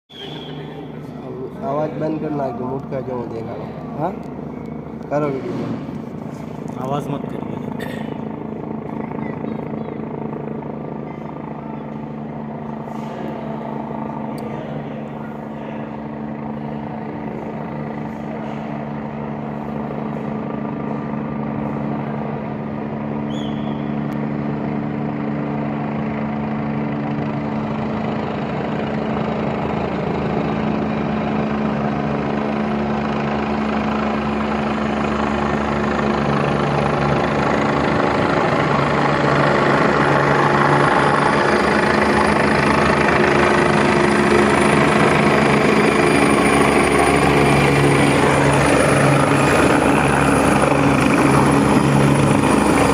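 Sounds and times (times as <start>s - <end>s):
helicopter rotor and engine: 0.1s - 52.9s.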